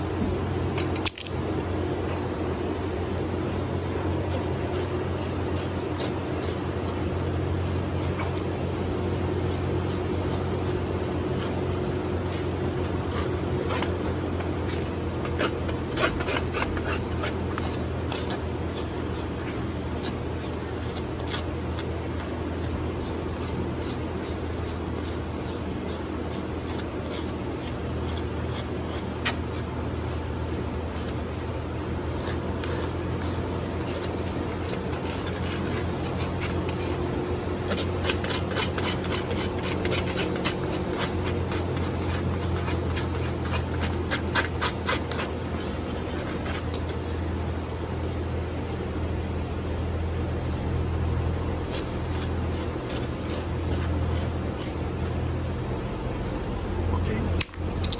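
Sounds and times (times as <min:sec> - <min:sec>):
steady low hum: 0:00.0 - 0:57.9
rasp filing a hoof: 0:01.6 - 0:49.2, 0:51.4 - 0:56.5.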